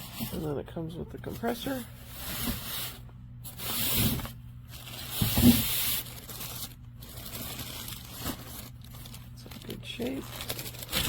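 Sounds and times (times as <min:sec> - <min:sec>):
wrapping rustling and tearing: 0:00.0 - 0:00.6, 0:01.2 - 0:11.0.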